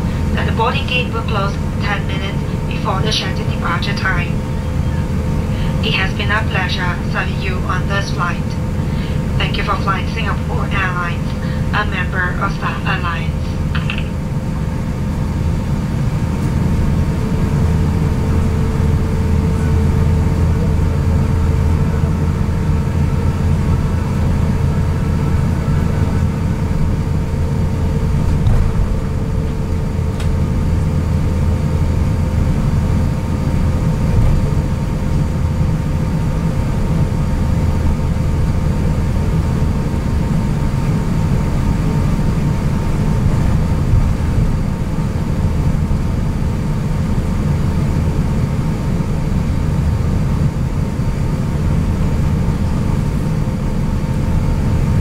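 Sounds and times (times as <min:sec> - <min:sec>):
aircraft cabin rumble: 0:00.0 - 0:55.0
faint steady whine: 0:00.0 - 0:55.0.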